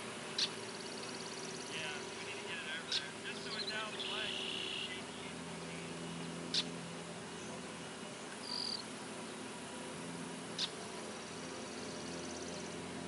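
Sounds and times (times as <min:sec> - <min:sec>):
distant tractor engine droning: 0:00.0 - 0:13.0.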